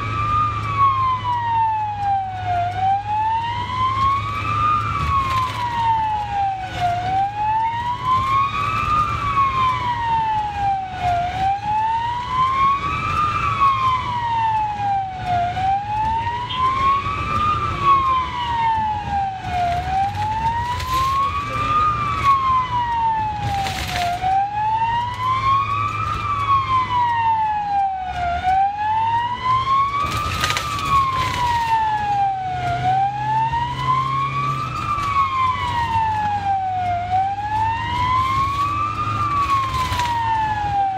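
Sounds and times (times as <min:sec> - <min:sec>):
ambulance siren wailing: 0:00.0 - 0:40.9
engine and road noise: 0:00.0 - 0:40.9.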